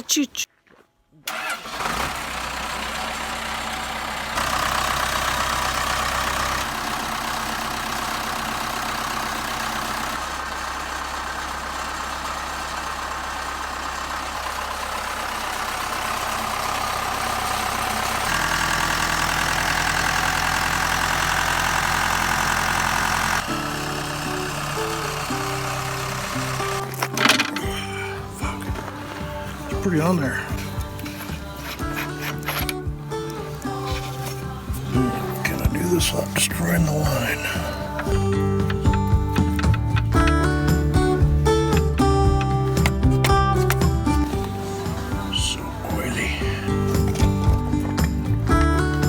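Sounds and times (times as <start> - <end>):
diesel engine running: 1.3 - 49.0.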